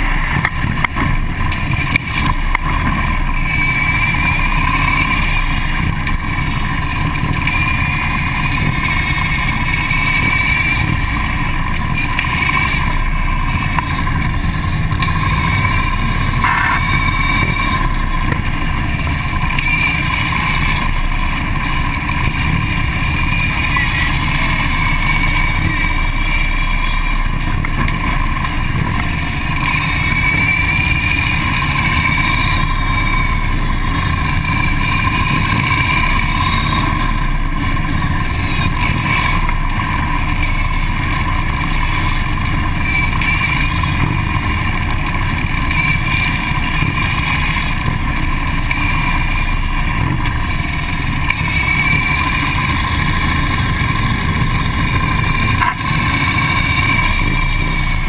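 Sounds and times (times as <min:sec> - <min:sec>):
motorcycle engines running: 0:00.0 - 0:58.0.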